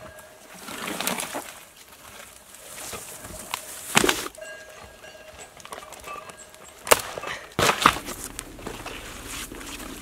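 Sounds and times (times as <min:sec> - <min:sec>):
dry branches rustling and scraping: 0:00.0 - 0:10.0.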